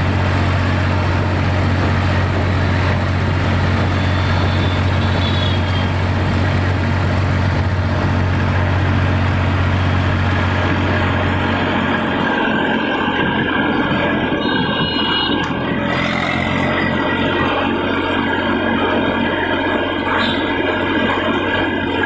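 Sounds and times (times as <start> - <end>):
tractor diesel engine droning: 0.0 - 22.0.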